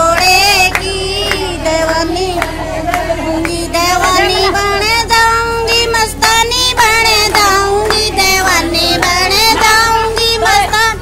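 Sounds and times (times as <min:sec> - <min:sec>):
woman singing devotional song: 0:00.0 - 0:11.0.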